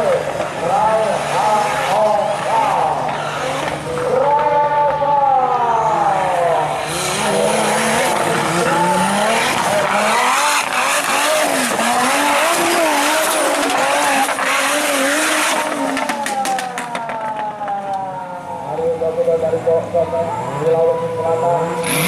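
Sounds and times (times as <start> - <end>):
off-road engine revving: 0.0 - 4.5, 5.6 - 16.9, 18.8 - 22.0.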